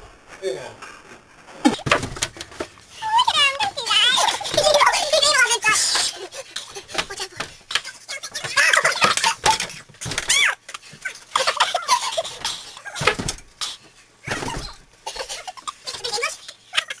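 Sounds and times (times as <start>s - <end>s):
thumps: 0.0s - 16.1s.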